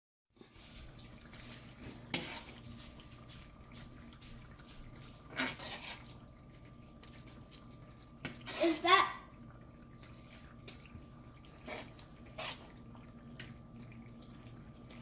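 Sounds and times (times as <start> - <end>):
faint running water: 0.4 - 15.0.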